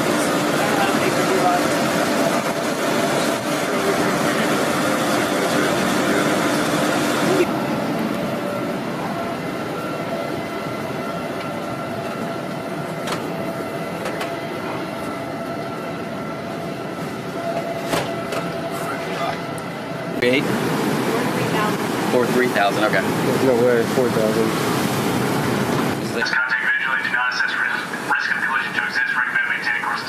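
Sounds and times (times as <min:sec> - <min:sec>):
machinery and ventilation hum: 0:00.0 - 0:30.0.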